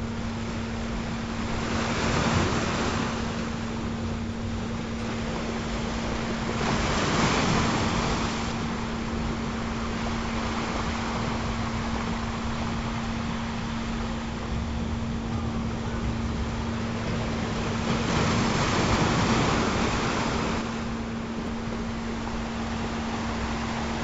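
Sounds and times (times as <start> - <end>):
ocean surf washing: 0.0 - 24.0
steady low tone: 0.0 - 24.0.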